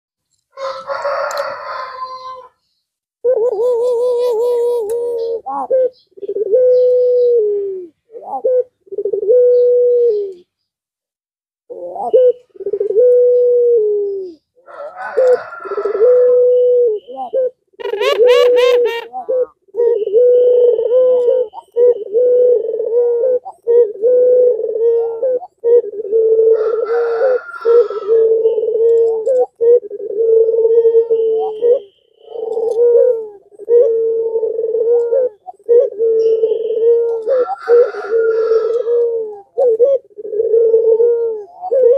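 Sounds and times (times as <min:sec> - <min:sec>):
dove cooing: 0:00.6 - 0:02.6, 0:03.2 - 0:10.5, 0:11.7 - 0:41.9.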